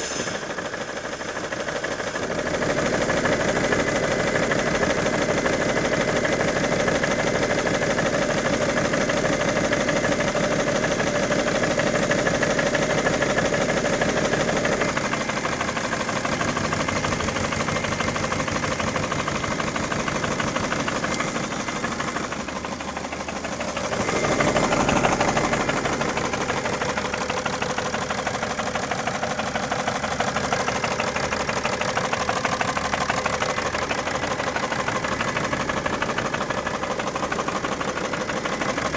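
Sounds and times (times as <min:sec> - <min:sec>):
diesel engine knocking clatter: 0:00.0 - 0:38.9.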